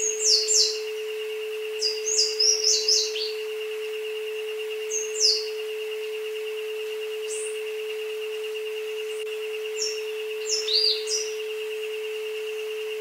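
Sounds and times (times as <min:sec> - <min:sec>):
birds chirping: 0:00.0 - 0:13.0
high tone pulsing rapidly: 0:00.0 - 0:13.0.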